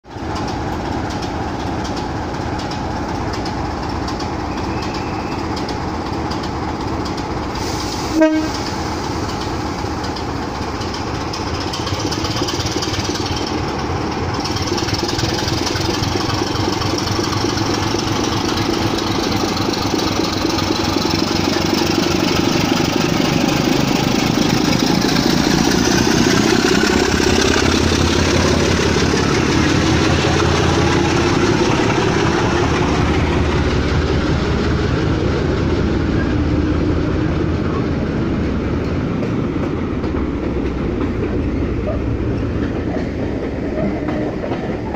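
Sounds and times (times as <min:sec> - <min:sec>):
diesel locomotive engine rumbling: 0:00.0 - 0:44.9
train coaches rolling on rails: 0:00.1 - 0:44.9.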